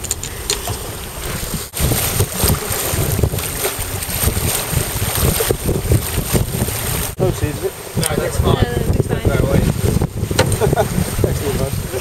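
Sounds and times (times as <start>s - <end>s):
choppy water slapping boat: 0.0s - 12.0s
wind buffeting microphone: 0.0s - 12.0s.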